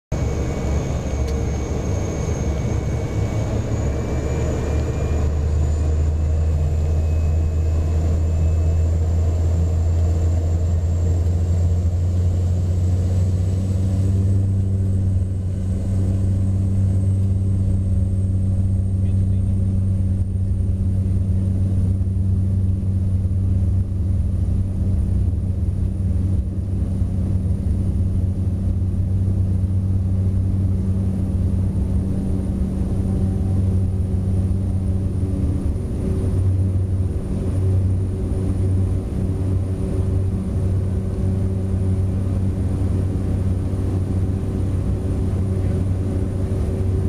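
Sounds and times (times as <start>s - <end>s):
high turbine whine: 0.1s - 47.0s
propeller drone: 0.1s - 47.0s.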